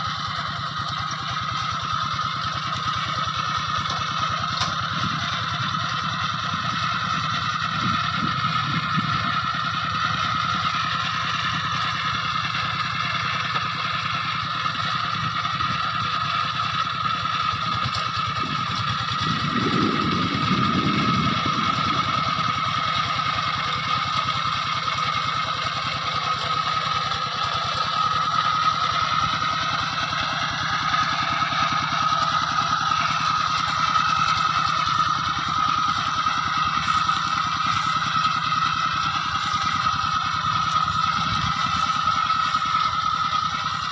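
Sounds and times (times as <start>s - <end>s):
small engine running with whine: 0.0s - 43.9s.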